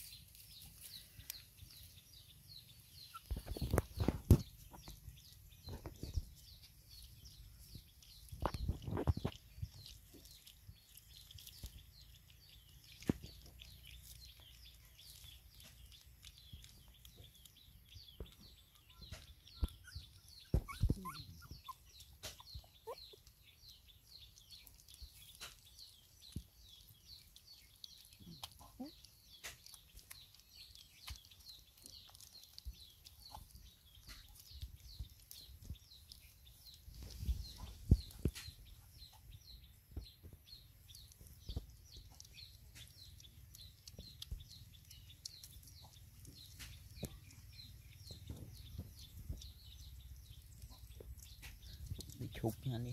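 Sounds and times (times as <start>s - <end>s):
high-pitched bird chirping: 0.0s - 52.9s
puppies eating from a bowl: 0.0s - 52.9s.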